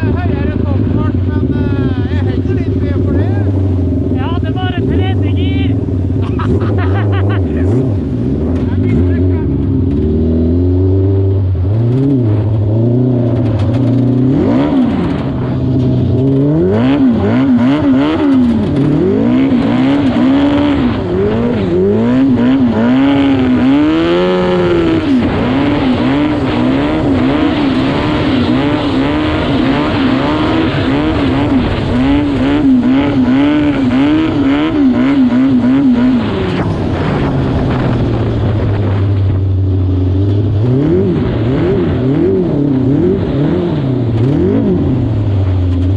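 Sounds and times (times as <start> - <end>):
engine revving: 0.0 - 45.9.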